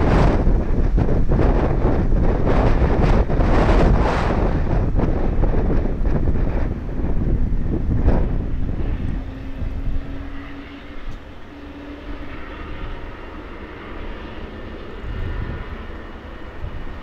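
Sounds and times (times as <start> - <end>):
helicopter turbine engines running: 0.0 - 17.0.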